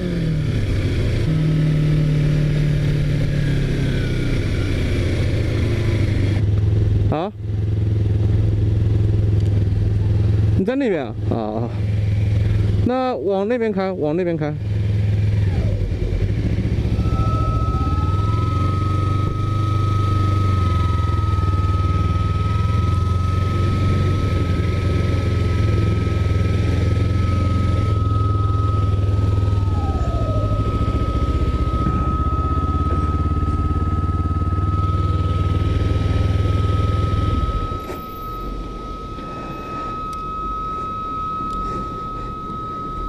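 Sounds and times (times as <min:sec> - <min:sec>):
motorcycle engine and wind rumble: 0:00.0 - 0:39.9
high-pitched whine: 0:00.0 - 0:43.0.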